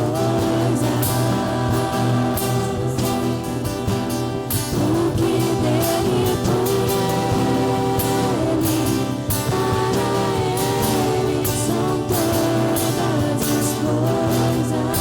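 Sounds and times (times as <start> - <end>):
person singing long notes: 0.0 - 3.4, 4.8 - 15.0
drums: 0.0 - 15.0
strummed acoustic guitar: 0.0 - 15.0.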